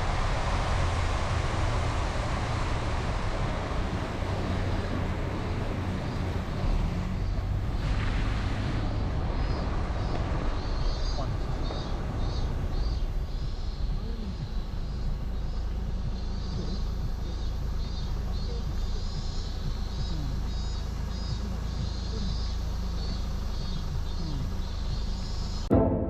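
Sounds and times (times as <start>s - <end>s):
car engine and tyre rumble: 0.0s - 25.7s
high pulsing buzz: 0.0s - 26.0s.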